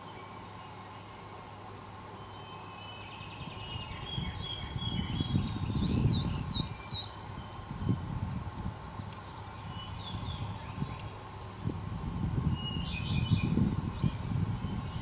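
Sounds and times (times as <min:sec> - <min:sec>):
songbird singing: 0:00.0 - 0:08.2, 0:08.8 - 0:15.0.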